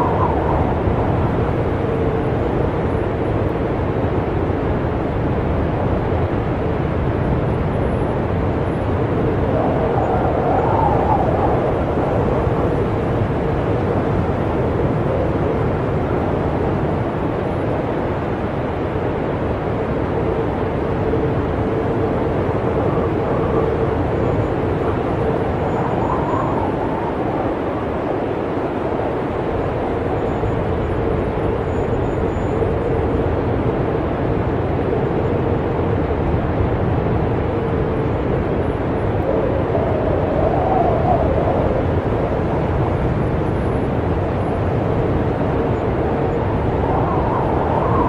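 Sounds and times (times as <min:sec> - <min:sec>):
blizzard wind howling: 0:00.0 - 0:48.0.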